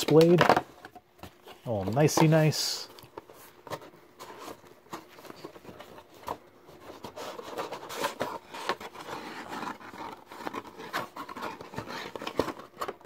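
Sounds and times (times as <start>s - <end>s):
cardboard and plastic scraping: 0.0s - 13.0s.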